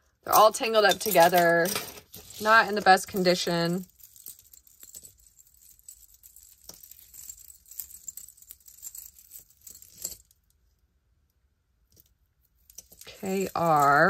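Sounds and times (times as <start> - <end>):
jewelry chains clinking: 0.3 - 10.5, 12.6 - 14.0.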